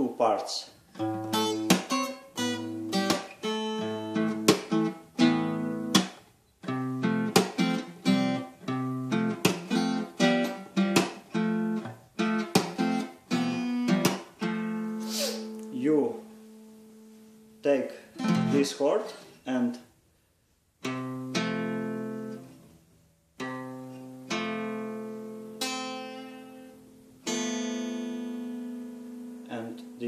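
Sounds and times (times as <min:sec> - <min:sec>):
acoustic guitar chords: 0:00.0 - 0:19.8, 0:20.8 - 0:30.0.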